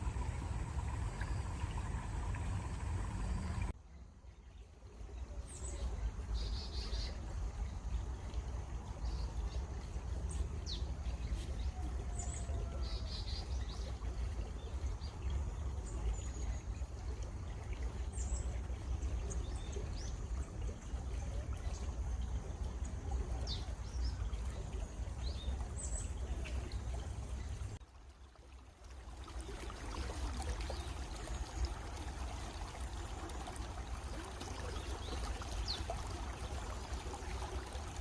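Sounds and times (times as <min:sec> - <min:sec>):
stream water running: 0:00.0 - 0:38.0.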